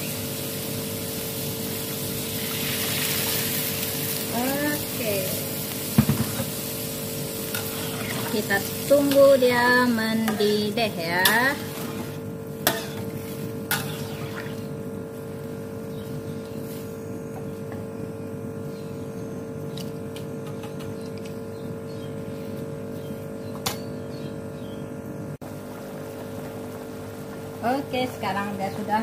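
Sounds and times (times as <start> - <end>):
steady low hum: 3.6 - 29.0.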